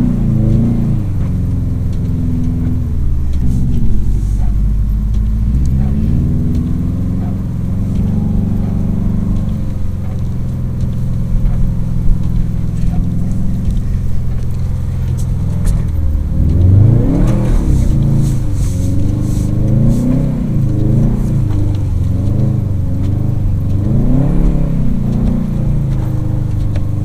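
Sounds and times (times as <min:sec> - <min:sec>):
car engine revving while driving: 0:00.0 - 0:27.0.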